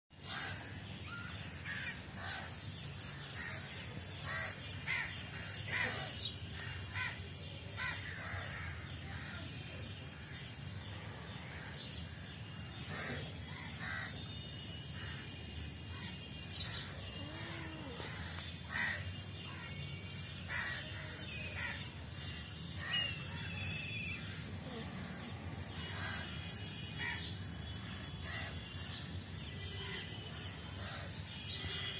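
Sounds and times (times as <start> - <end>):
birds calling: 0.2 - 31.9.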